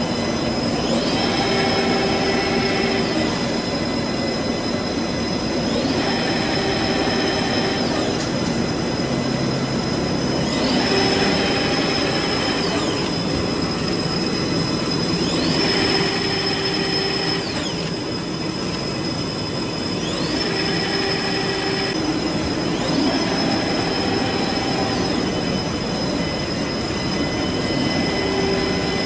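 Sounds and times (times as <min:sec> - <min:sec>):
paper machine running with whine: 0:00.0 - 0:29.0.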